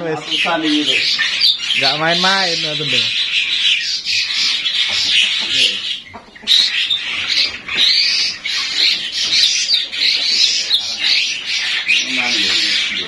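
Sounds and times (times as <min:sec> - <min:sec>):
starlings chattering and squawking: 0:00.0 - 0:13.0.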